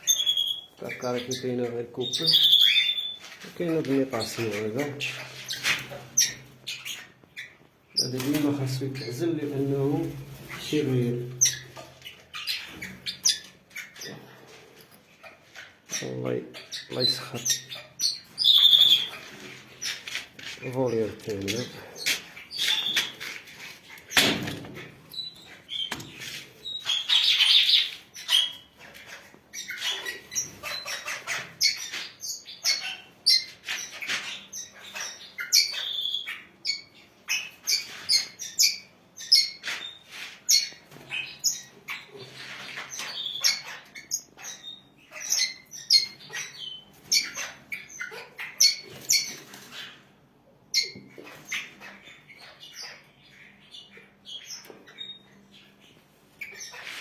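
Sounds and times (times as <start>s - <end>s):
parrots chirping and squawking: 0.0s - 57.0s.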